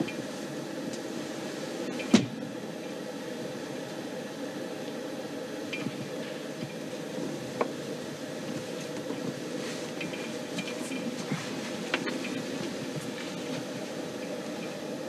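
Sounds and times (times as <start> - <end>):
low hiss and hum: 0.0 - 15.0.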